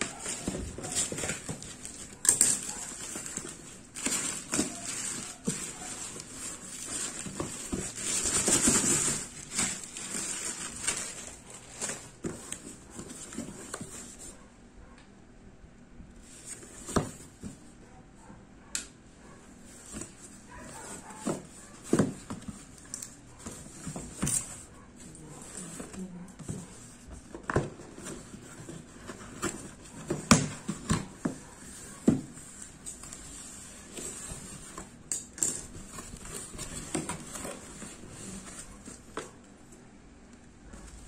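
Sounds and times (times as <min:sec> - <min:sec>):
cardboard box handled and opened: 0:00.0 - 0:14.3, 0:19.7 - 0:39.4.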